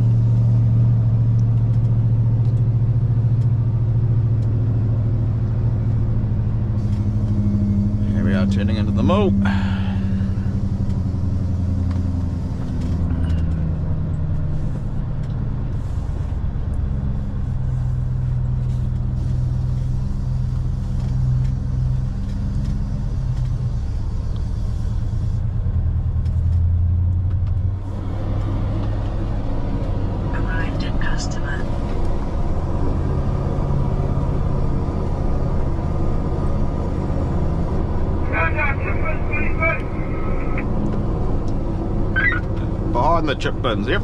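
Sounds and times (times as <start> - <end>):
diesel truck engine at low revs: 0.0 - 44.0.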